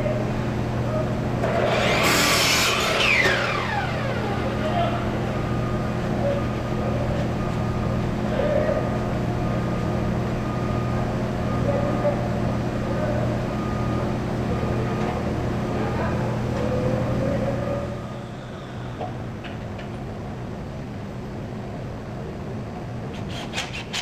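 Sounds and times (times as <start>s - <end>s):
factory machinery hum: 0.0s - 24.0s.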